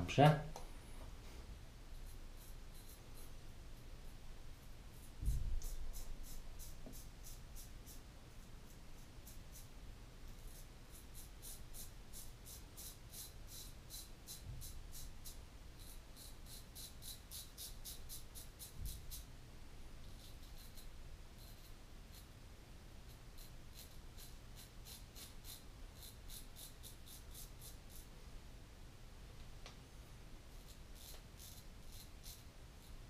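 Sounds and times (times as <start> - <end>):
razor scratching through stubble: 1.9 - 9.7, 10.3 - 19.3, 20.0 - 22.4, 23.0 - 28.1, 30.5 - 33.0.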